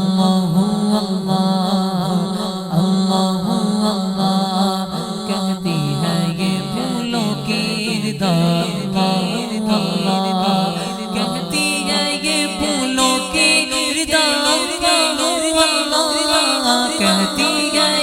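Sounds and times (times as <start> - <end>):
men chanting: 0.0 - 18.0.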